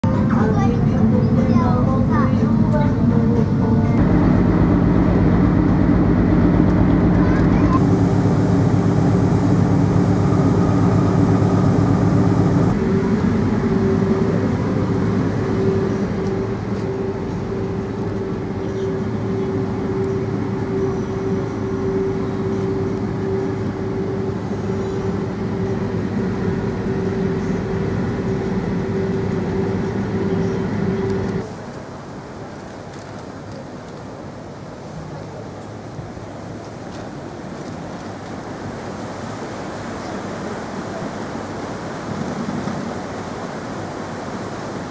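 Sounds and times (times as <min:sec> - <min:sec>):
ship engine drone: 0:00.0 - 0:44.9.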